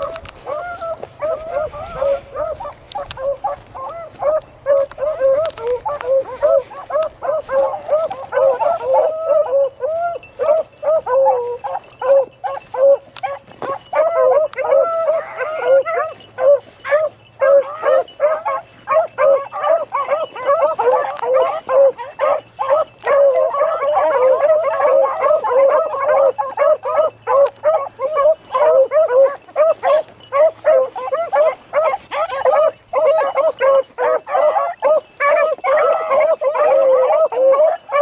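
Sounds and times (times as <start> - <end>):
hounds baying: 0.0 - 38.0.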